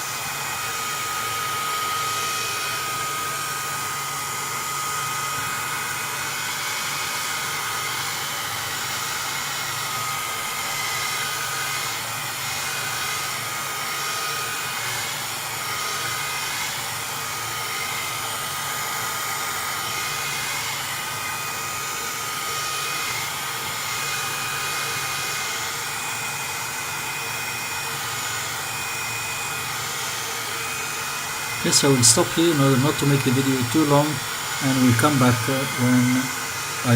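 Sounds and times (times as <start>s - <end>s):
heat gun blowing hot air: 0.0s - 36.9s.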